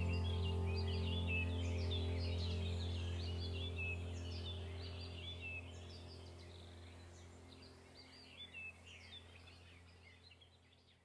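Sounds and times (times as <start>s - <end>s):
low steady hum: 0.0s - 10.9s
small birds chirping: 0.0s - 11.0s.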